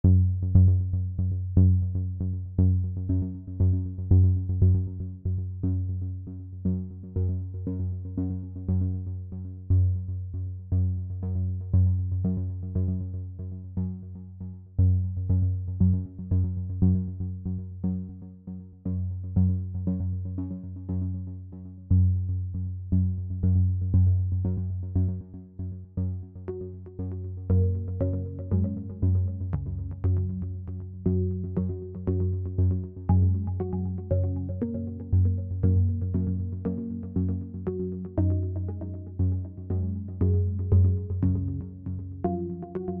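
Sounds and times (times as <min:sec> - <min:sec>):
electronic music with bass: 0:00.0 - 0:43.0.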